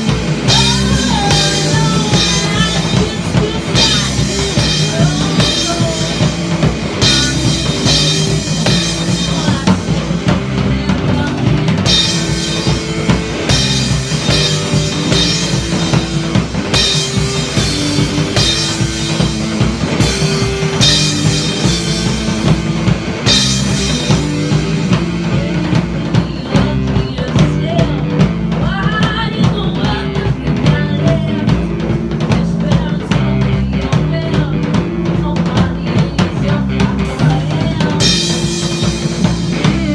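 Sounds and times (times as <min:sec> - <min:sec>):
woman singing: 0:00.0 - 0:18.9, 0:23.2 - 0:39.9
bass guitar: 0:00.0 - 0:39.9
drum kit beat: 0:00.0 - 0:39.9
electric guitar: 0:00.0 - 0:39.9.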